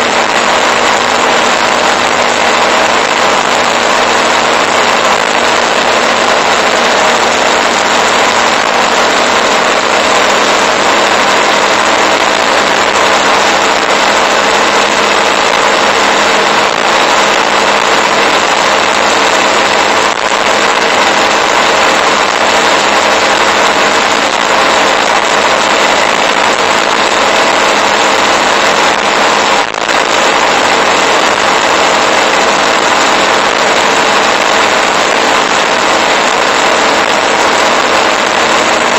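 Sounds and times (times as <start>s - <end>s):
motorcycle engine drone: 0.0s - 38.9s
wind and road noise: 0.0s - 38.9s.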